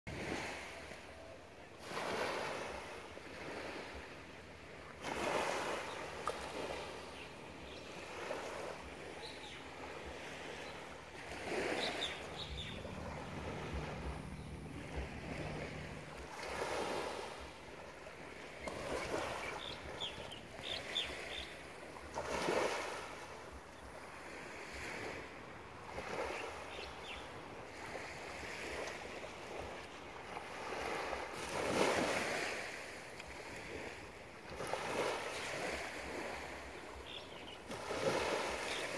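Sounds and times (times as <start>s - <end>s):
small waves lapping on sand: 0.1s - 38.9s.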